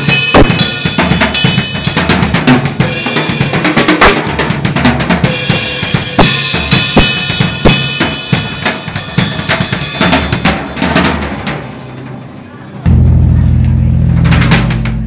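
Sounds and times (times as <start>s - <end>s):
drum kit playing: 0.0s - 15.0s.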